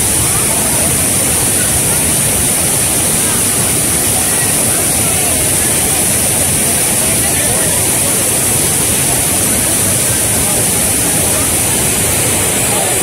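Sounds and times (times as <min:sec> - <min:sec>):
water rushing across road: 0:00.0 - 0:13.0.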